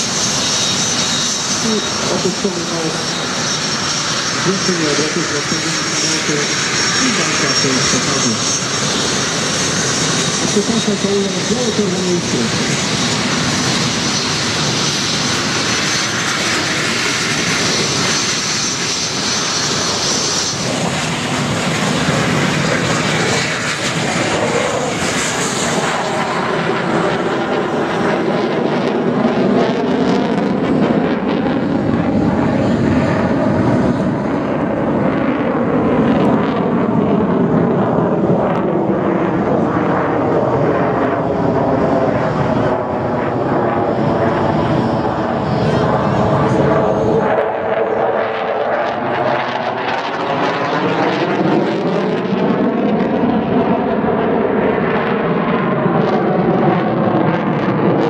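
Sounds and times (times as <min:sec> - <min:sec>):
jet engines roaring overhead: 0:00.0 - 0:58.0.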